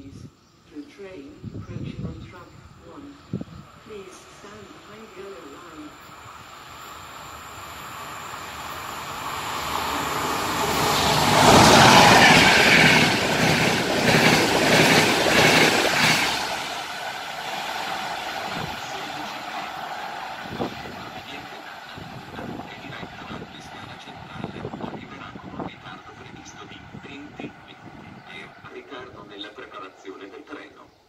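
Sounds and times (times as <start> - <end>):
train passing at speed: 2.2 - 30.9.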